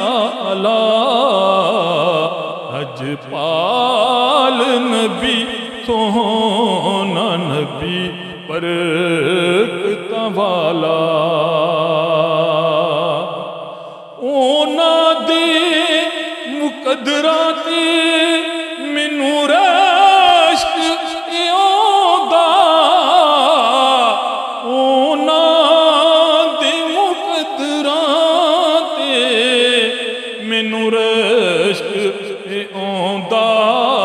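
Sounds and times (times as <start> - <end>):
man singing devotional song: 0.0 - 34.0.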